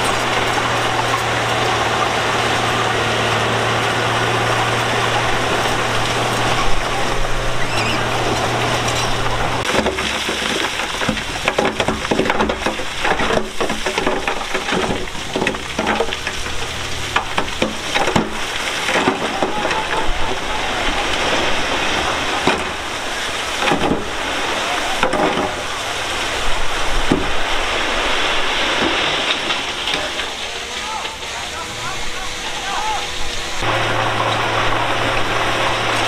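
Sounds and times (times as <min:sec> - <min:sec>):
diesel engine running: 0:00.0 - 0:36.0
gravel crunching under machinery: 0:00.0 - 0:36.0.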